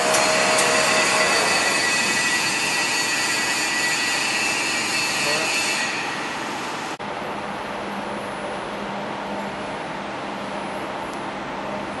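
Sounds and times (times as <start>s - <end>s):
machine running with low hum: 0.0s - 12.0s.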